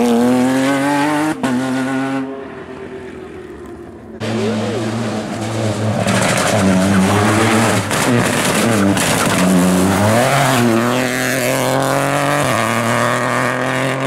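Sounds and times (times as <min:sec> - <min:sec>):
rally car engine revving: 0:00.0 - 0:02.3, 0:04.2 - 0:14.0.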